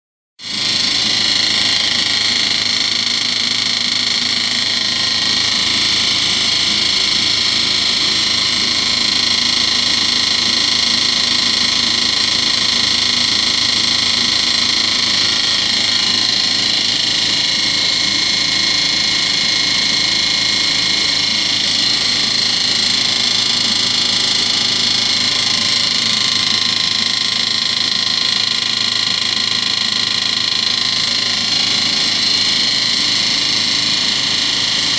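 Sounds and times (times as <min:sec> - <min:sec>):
washing machine running: 0:00.4 - 0:34.9.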